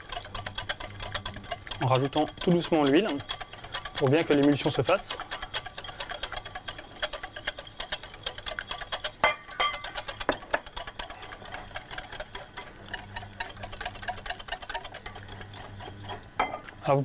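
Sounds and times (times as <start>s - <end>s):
whisk clicking against glass bowl: 0.0s - 17.0s.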